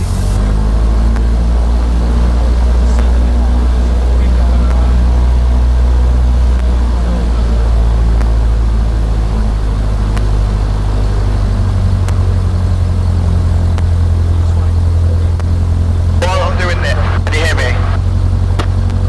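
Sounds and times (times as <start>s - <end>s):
propeller plane engine idling: 0.0s - 19.0s.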